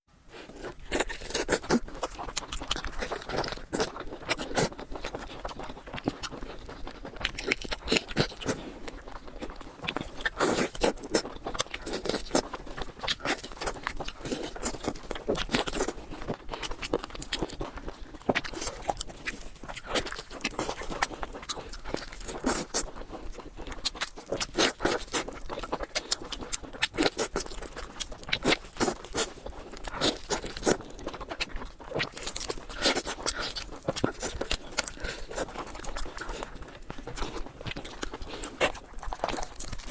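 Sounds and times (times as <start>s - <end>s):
chewing and crunching: 0.3s - 39.9s.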